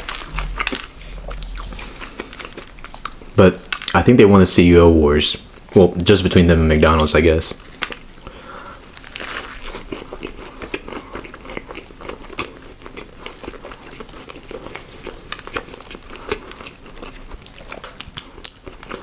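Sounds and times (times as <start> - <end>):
close chewing with crunches: 0.0 - 4.0, 7.6 - 19.0.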